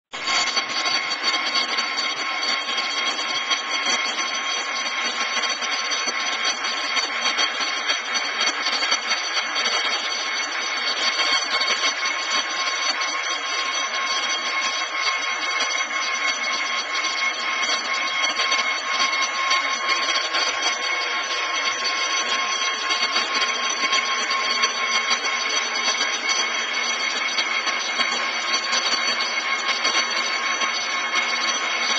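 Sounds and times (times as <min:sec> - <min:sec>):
metal lathe whining: 0:00.2 - 0:31.9.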